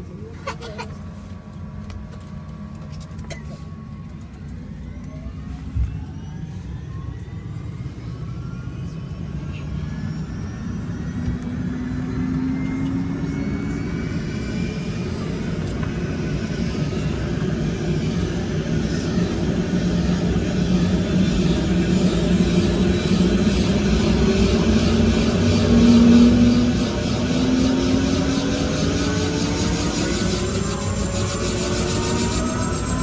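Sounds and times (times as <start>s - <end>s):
helicopter engine and rotor: 0.0s - 33.0s.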